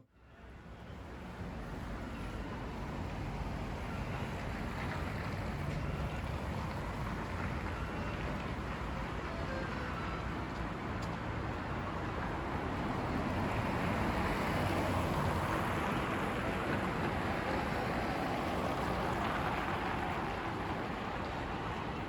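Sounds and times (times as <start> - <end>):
traffic rushing: 0.5 - 22.0.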